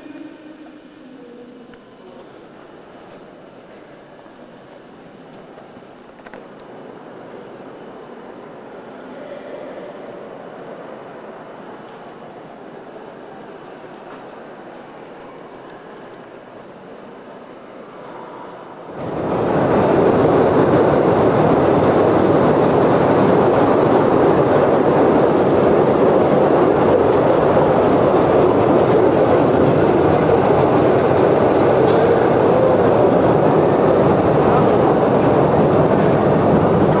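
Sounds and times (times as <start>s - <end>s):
train running on rails: 1.9s - 37.0s.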